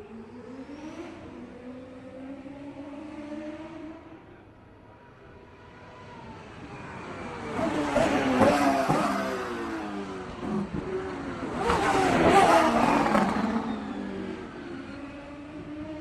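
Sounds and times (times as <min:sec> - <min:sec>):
racing car engines passing: 0:00.0 - 0:16.0.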